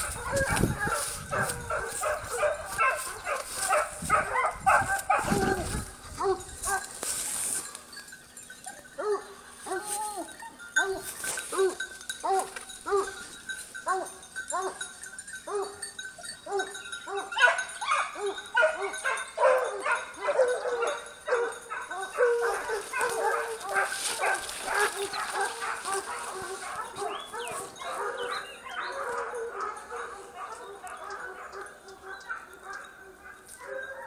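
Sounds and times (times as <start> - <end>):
hounds baying: 0.0 - 34.0.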